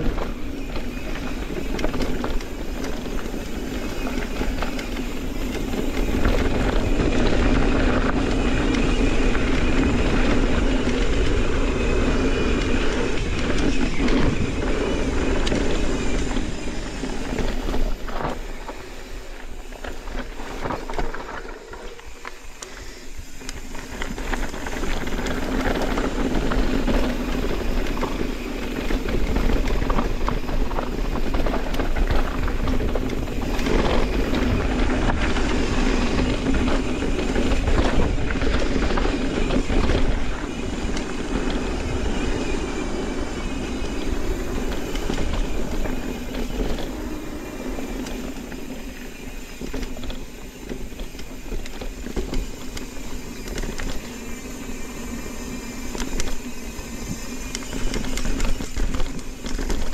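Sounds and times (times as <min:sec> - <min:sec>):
bike tyres rattling over dirt: 0:00.0 - 0:59.9
wind noise on microphone: 0:00.0 - 0:59.9.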